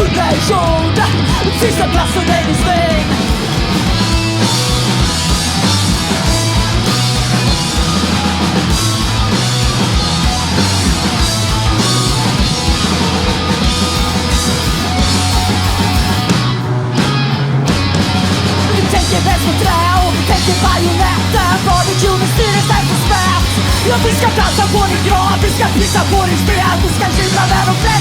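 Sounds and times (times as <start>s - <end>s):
bass guitar: 0.0s - 28.0s
distorted electric guitars: 0.0s - 28.0s
fast driving drum kit: 0.0s - 28.0s.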